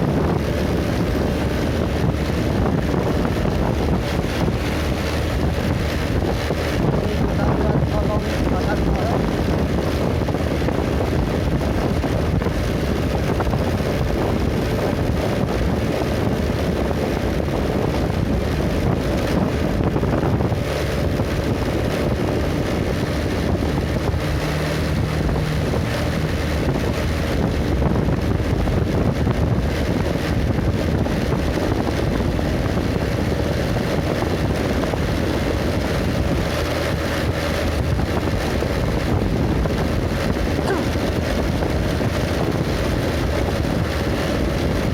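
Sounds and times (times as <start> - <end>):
vehicle engine and road noise: 0.0 - 44.9
wind noise on microphone: 0.0 - 44.9.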